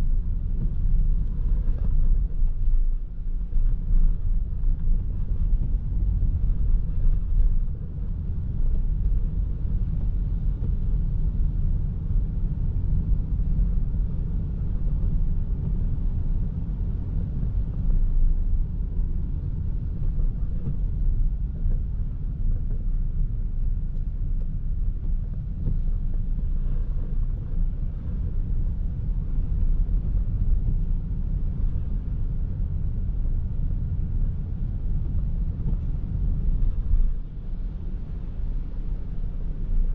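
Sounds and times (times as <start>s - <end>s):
car driving on wet road: 0.1s - 39.9s.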